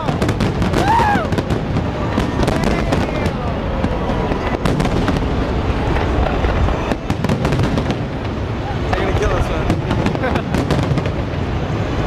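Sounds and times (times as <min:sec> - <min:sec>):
fireworks bangs and crackle: 0:00.0 - 0:12.0
low rumble: 0:00.0 - 0:12.0.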